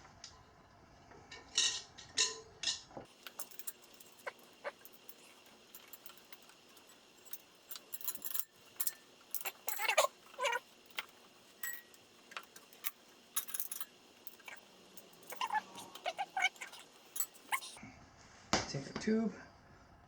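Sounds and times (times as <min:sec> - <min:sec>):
metal tools tapping wheel rim: 0:01.4 - 0:17.8.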